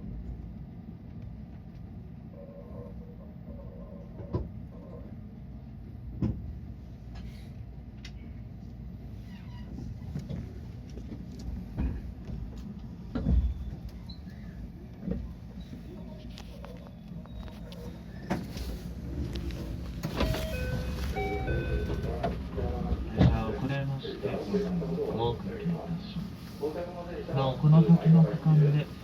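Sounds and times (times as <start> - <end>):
train car low hum: 0.0 - 29.0.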